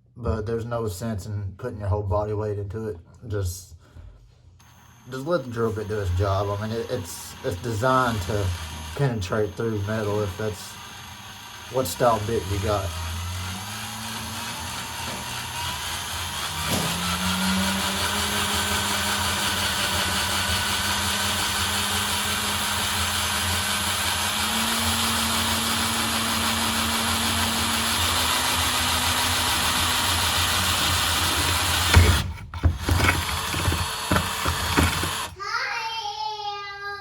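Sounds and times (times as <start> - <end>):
electric drill boring through metal: 4.6 - 35.4.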